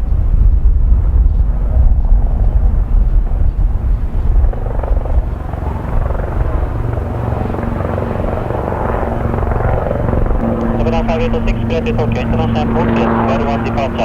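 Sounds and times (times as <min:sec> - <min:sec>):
helicopter rotor and turbine: 0:00.0 - 0:14.0
wind buffeting microphone: 0:00.0 - 0:14.0.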